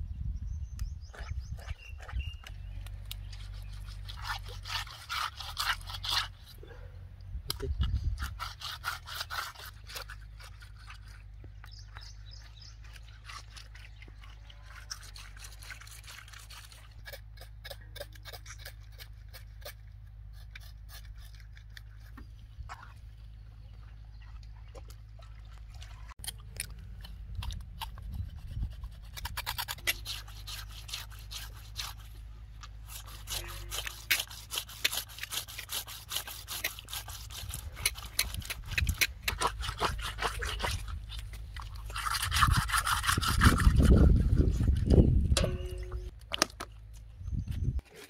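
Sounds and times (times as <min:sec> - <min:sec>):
scraping and rubbing strokes: 0:01.1 - 0:06.9, 0:07.6 - 0:23.0, 0:27.0 - 0:46.2.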